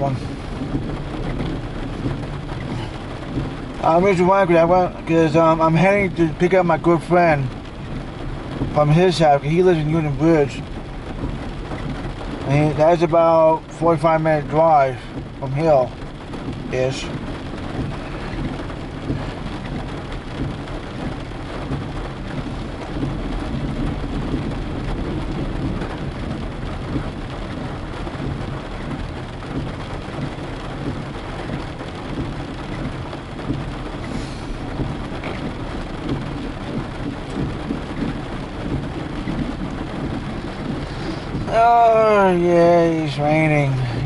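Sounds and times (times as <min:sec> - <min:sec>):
rain falling on a car: 0:00.0 - 0:44.0
rumble of moving car: 0:00.0 - 0:44.0.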